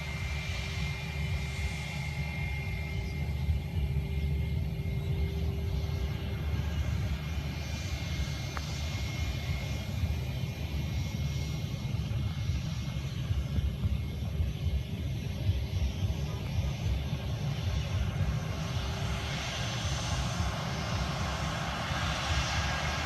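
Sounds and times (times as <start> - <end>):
airliner engines rumbling: 0.0 - 23.0
faint engine whine: 0.0 - 23.0.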